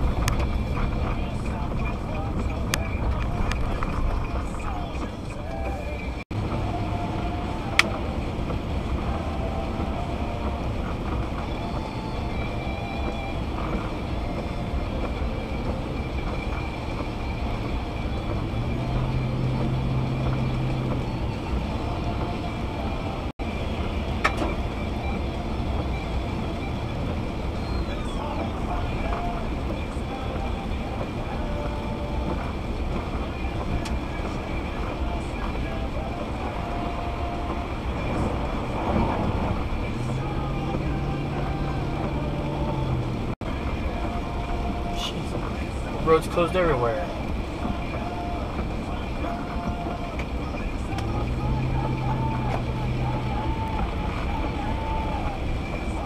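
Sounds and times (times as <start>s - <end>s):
car engine hum: 0.0s - 56.0s
tyres rumbling on wet road: 0.0s - 56.0s
windshield wipers sweeping: 0.0s - 56.0s.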